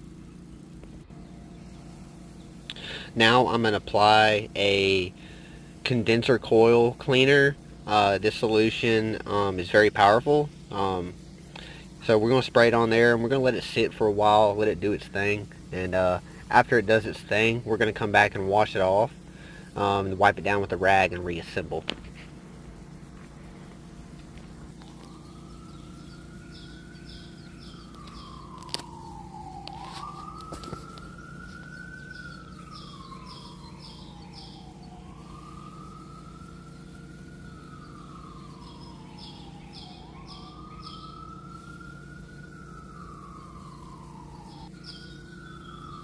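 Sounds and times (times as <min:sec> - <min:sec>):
siren wailing: 0:00.0 - 0:46.0
steady low hum: 0:00.0 - 0:46.0.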